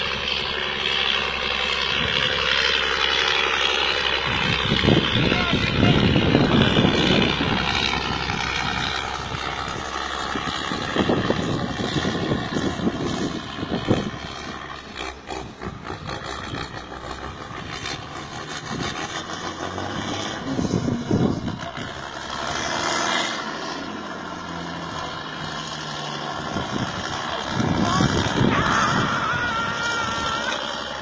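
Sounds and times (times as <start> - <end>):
diesel truck engine droning: 0.0 - 31.0.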